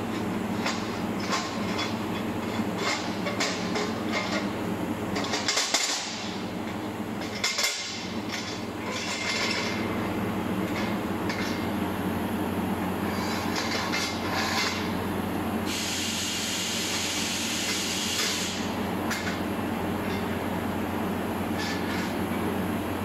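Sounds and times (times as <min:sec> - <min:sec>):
workshop machinery drone and hiss: 0:00.0 - 0:23.0.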